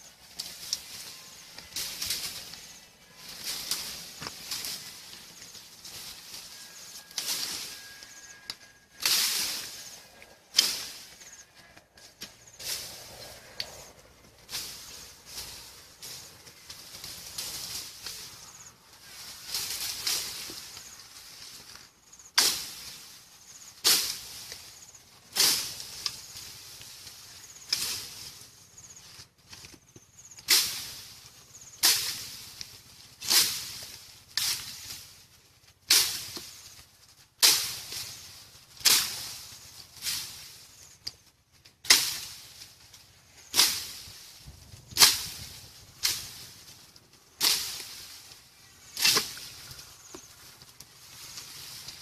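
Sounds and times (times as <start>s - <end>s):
stick swishing into bamboo leaves: 0.2s - 52.0s.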